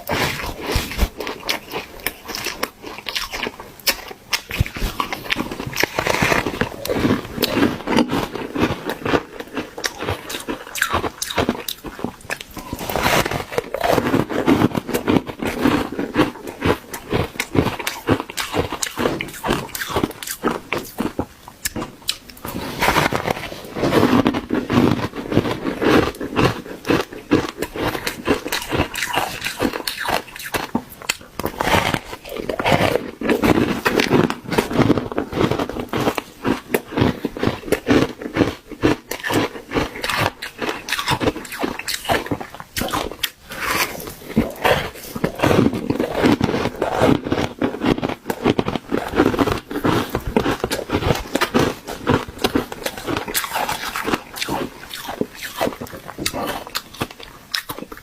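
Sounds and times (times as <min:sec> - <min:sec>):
chewing ice crunches: 0:00.0 - 0:58.0.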